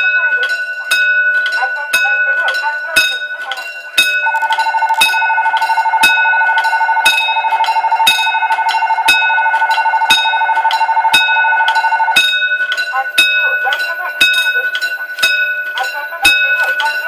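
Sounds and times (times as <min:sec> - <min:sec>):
level crossing warning bell: 0:00.0 - 0:17.0
pulsing electronic chime: 0:00.0 - 0:17.0.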